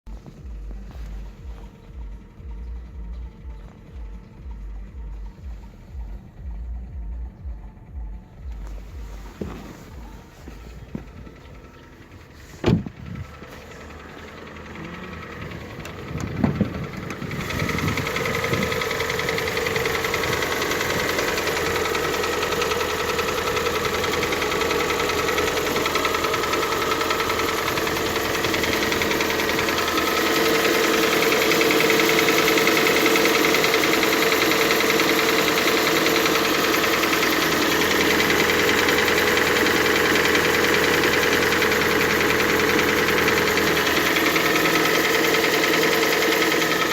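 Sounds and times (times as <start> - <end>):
engine knocking: 0.1 - 46.9
petrol engine idling: 0.1 - 46.9.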